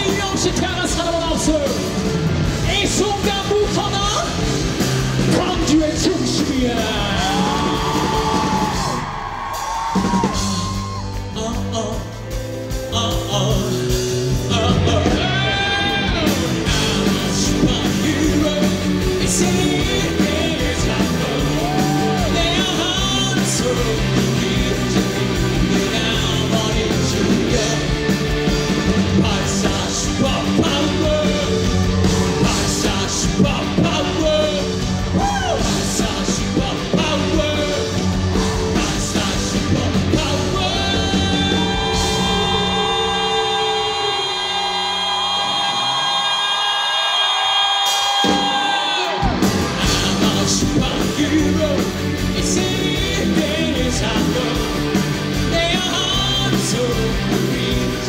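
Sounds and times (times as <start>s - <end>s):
live rock band playing: 0.0s - 58.0s
male lead singer: 0.0s - 58.0s.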